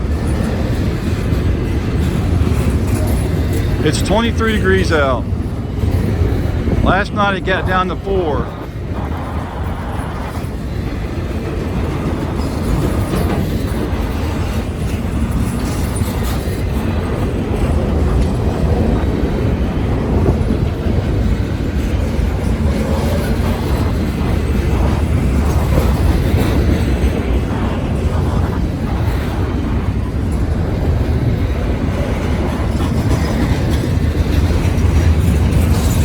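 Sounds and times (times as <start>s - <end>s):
freight train wheels rolling on rails: 0.0s - 7.2s, 7.9s - 36.0s.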